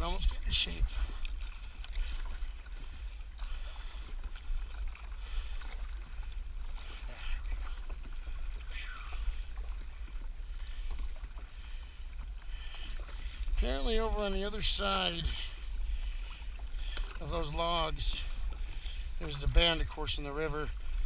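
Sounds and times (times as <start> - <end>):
paddle splashing in water: 0.0 - 21.0.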